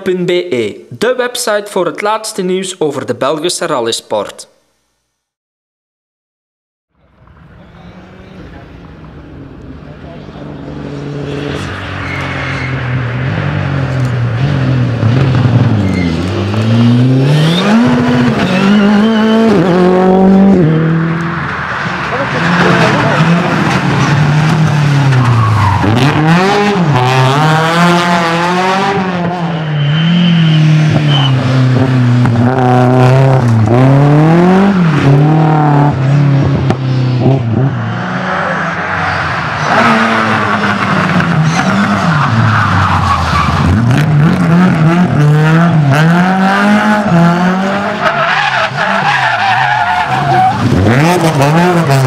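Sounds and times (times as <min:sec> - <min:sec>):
rally car engines revving: 0:07.0 - 0:52.0.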